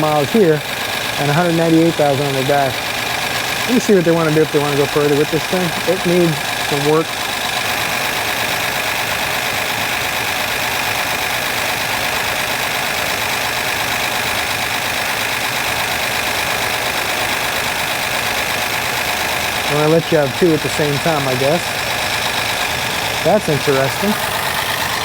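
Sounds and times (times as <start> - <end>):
car engine idling roughly: 0.0 - 25.0.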